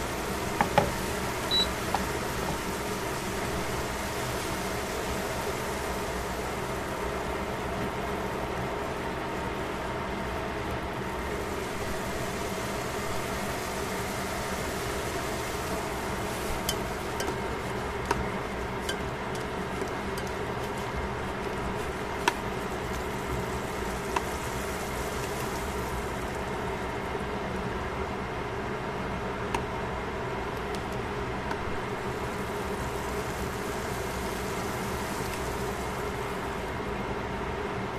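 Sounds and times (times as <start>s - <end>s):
steady hum: 0.0s - 37.9s
vegetables sizzling in a pan: 0.0s - 37.9s.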